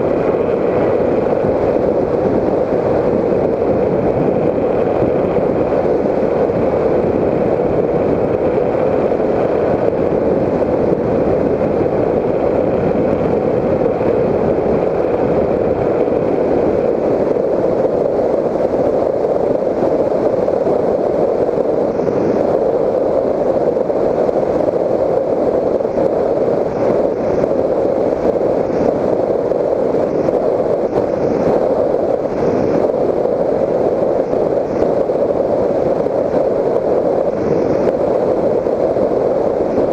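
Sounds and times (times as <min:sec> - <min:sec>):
electric motor and propeller: 0:00.0 - 0:39.9
wind rushing over camera: 0:00.0 - 0:39.9.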